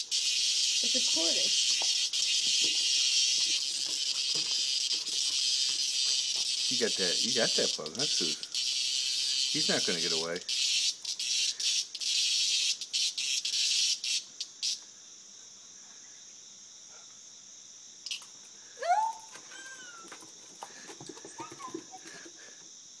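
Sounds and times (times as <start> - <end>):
cicada distress buzzes: 0.0 - 23.0
faint high insect drone: 0.0 - 23.0.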